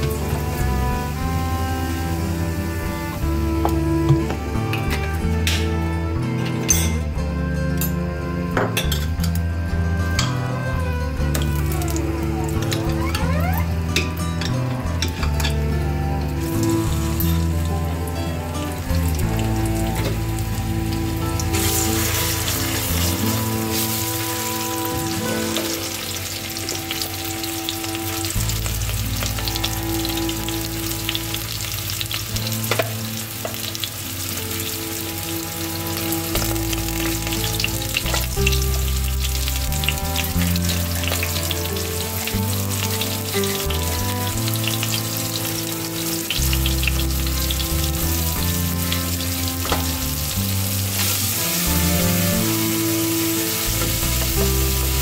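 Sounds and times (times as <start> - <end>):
tomato paste sizzling in oil: 0.0 - 5.8, 11.1 - 55.0
background music sustained notes: 0.0 - 55.0.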